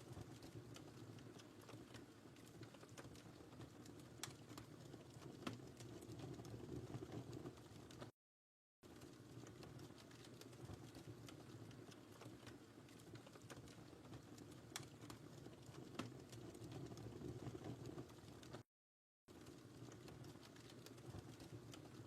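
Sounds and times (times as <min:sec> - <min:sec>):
fire pops and snaps: 0:00.0 - 0:08.1, 0:08.9 - 0:18.6, 0:19.3 - 0:22.0
low rumble of flames: 0:00.0 - 0:08.1, 0:08.9 - 0:18.6, 0:19.3 - 0:22.0.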